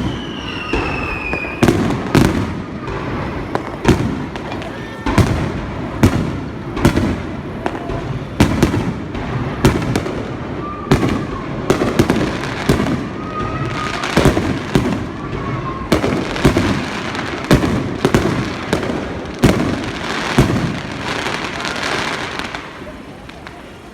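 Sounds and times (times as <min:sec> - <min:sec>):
fireworks booming: 0:00.0 - 0:23.9
fireworks crackling: 0:00.0 - 0:23.9.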